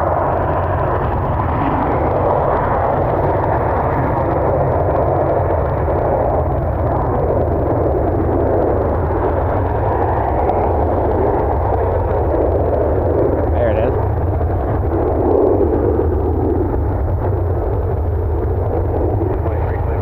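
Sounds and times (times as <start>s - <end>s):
jet engines roaring: 0.0s - 20.0s
wind rumble on microphone: 0.0s - 20.0s.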